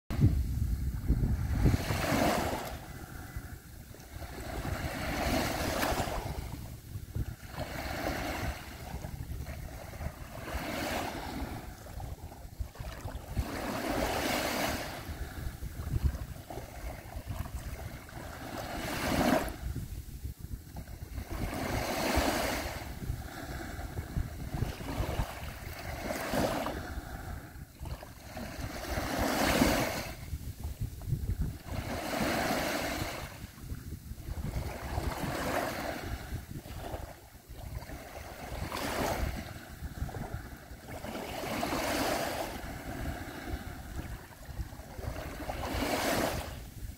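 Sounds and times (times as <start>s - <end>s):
small waves washing ashore: 0.1s - 46.9s
wind rumble on microphone: 0.1s - 46.9s.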